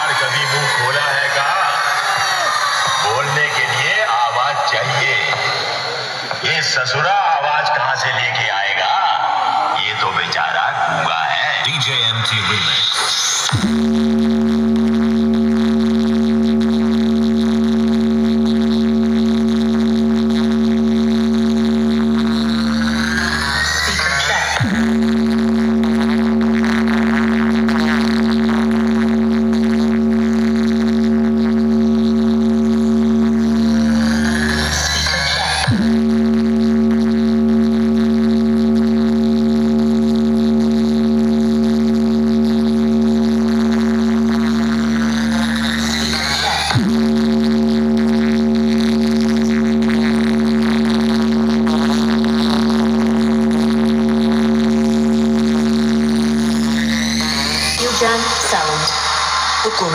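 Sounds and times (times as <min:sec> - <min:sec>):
deep bass hum: 0:00.0 - 0:06.6, 0:13.4 - 0:59.9
loud steady drone note: 0:00.0 - 0:59.9.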